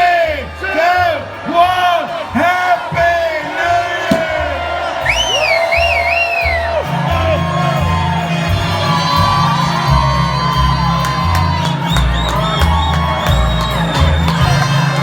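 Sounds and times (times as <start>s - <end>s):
crowd cheering and shouting: 0.0s - 15.0s.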